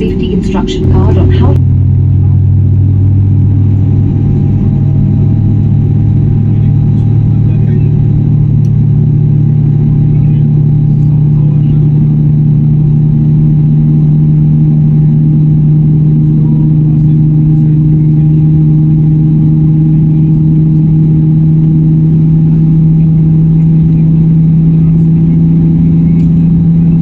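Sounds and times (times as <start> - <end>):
jet engine drone in cabin: 0.0 - 27.0.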